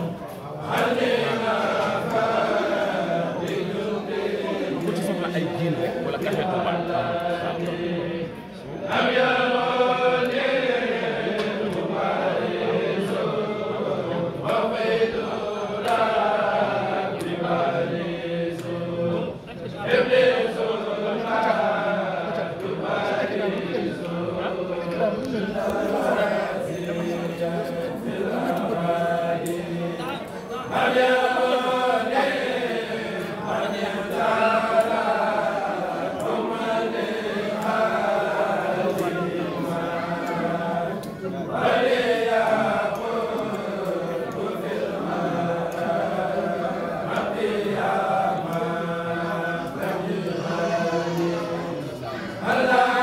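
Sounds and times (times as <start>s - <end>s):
group of men chanting: 0.0s - 53.0s.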